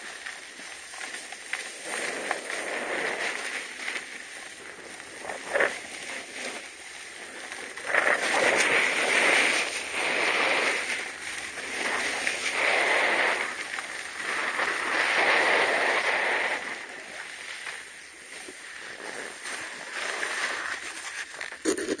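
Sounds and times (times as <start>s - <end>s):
edges scraping across snow: 1.0s - 4.1s, 4.7s - 22.0s.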